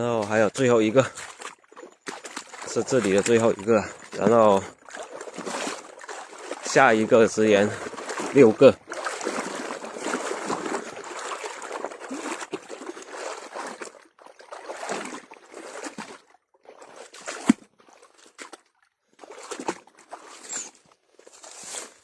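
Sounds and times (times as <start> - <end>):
water sloshing and trickling: 0.0 - 22.0.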